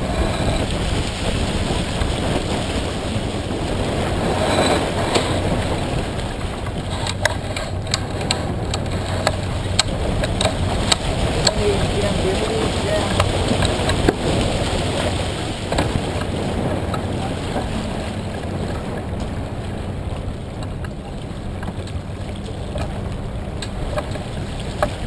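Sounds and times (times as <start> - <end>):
water rushing past hull: 0.0 - 25.0
wind buffeting microphone: 0.0 - 25.0.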